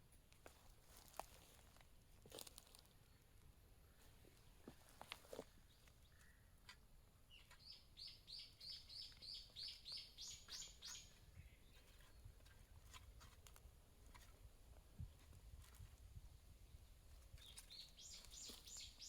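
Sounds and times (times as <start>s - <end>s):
songbird singing: 2.3s - 15.7s, 16.6s - 19.0s.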